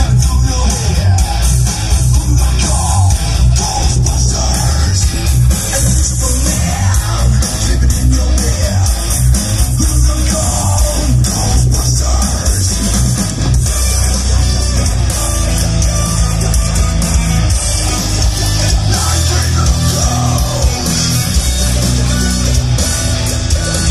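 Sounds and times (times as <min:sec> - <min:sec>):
loud rock music: 0:00.0 - 0:23.9.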